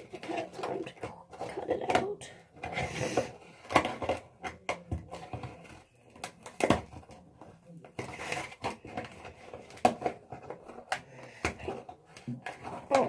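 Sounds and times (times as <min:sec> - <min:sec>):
clicks and scrapes of container: 0:00.0 - 0:13.0.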